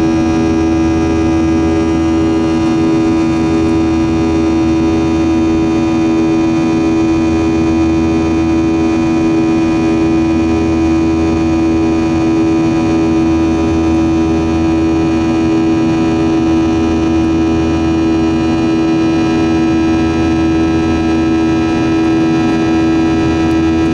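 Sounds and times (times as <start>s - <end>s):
jet engine drone in cabin: 0.0s - 23.9s.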